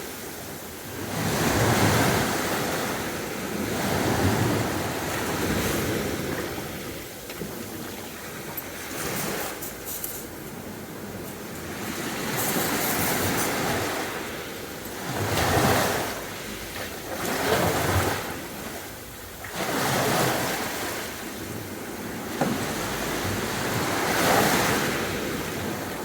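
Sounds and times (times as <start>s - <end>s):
sea waves breaking on beach: 0.0s - 26.0s.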